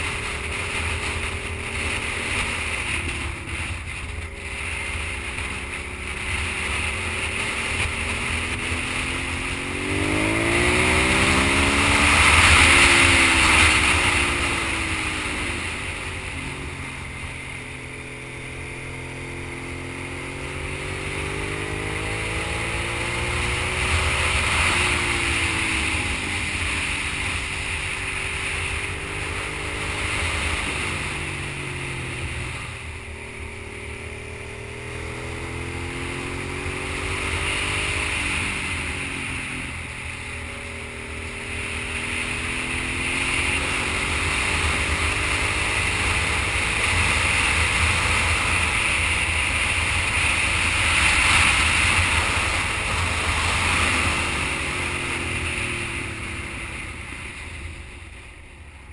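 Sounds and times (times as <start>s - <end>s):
motorcycle engine revving: 0.0s - 58.9s
wind rushing over microphone: 0.0s - 58.9s.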